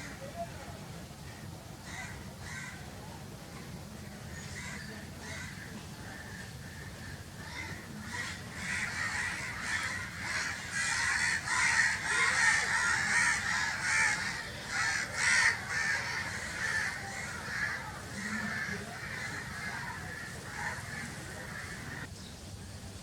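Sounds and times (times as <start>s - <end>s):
crows cawing: 1.8s - 2.9s, 4.4s - 22.1s.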